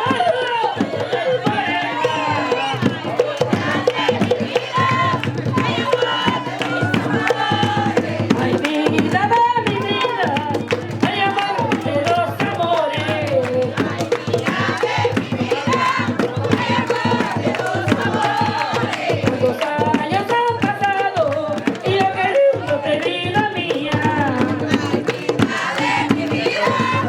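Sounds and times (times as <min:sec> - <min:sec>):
hand drums beating: 0:00.0 - 0:27.0
woman singing: 0:00.0 - 0:27.0.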